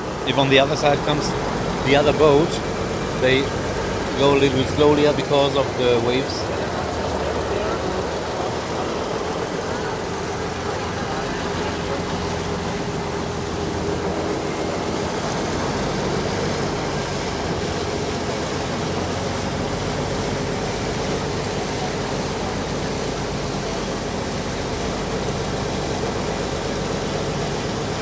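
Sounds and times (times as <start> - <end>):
boat diesel engine droning: 0.0 - 28.0.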